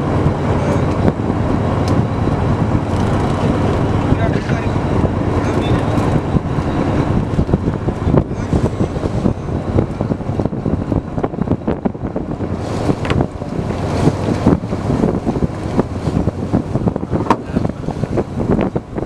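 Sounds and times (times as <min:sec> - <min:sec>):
boat engine running: 0:00.0 - 0:19.0
wind buffeting microphone: 0:00.0 - 0:19.0.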